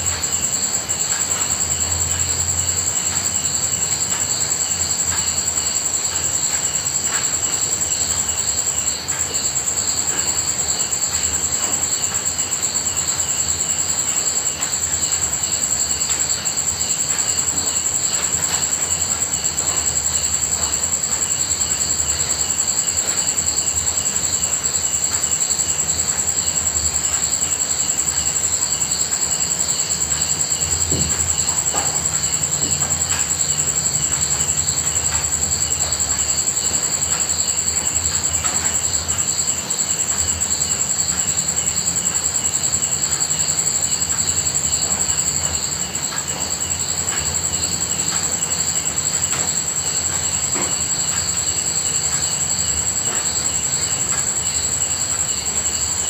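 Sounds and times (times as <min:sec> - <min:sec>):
night insects chirping: 0:00.0 - 0:56.0
steady rain: 0:00.0 - 0:56.0.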